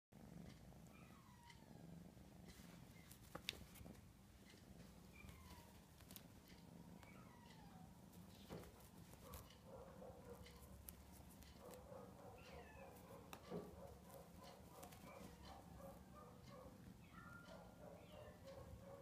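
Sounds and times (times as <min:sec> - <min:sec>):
low steady hum: 0:00.2 - 0:19.0.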